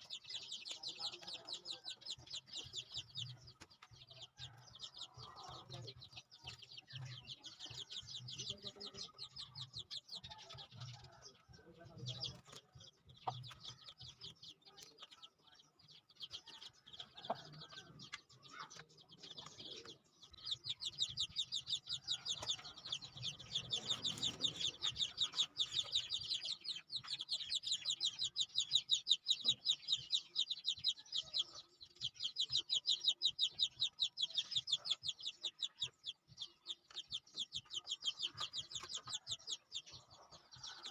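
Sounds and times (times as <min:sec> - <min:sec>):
chickens clucking: 0:00.0 - 0:40.9
chicks cheeping: 0:00.0 - 0:40.9.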